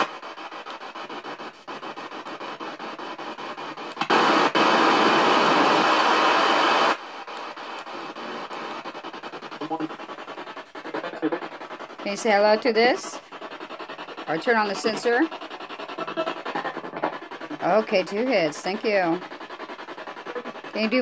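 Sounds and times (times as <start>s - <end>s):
radio static with stepping clicks: 0.0s - 21.0s
steady radio hiss: 0.0s - 21.0s.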